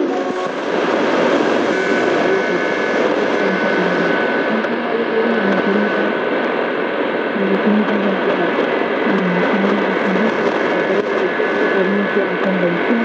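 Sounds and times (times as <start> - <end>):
faint steady whistles: 0.0 - 13.0
radio static hiss: 0.0 - 13.0
weak radio station: 0.0 - 13.0.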